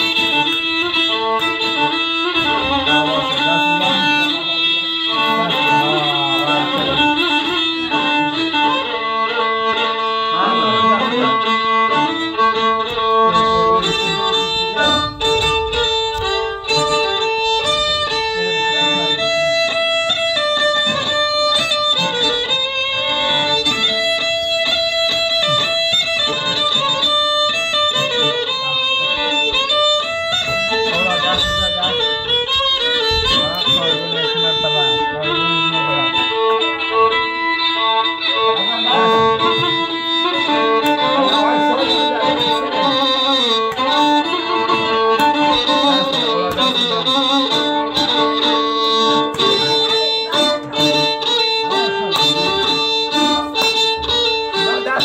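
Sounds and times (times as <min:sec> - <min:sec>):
solo violin melody: 0:00.0 - 0:55.0.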